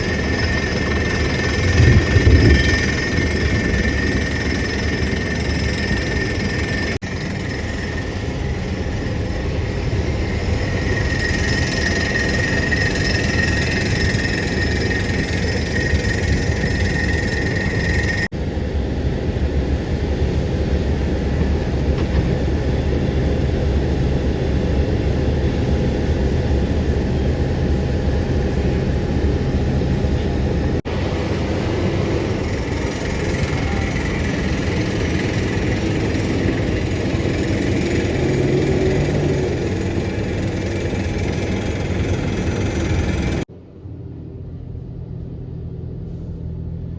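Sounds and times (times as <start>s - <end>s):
excavator diesel engine running: 0.0s - 43.5s
high whine: 0.0s - 46.9s.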